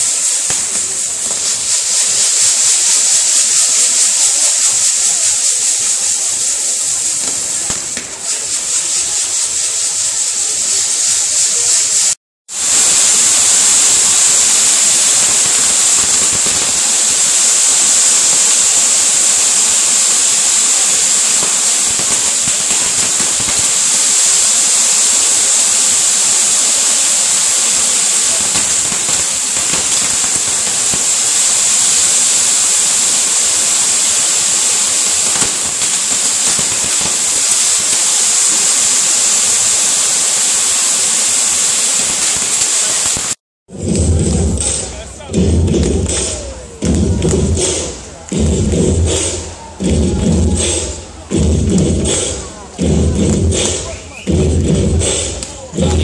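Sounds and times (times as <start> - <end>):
fireworks hissing: 0.0 - 56.0.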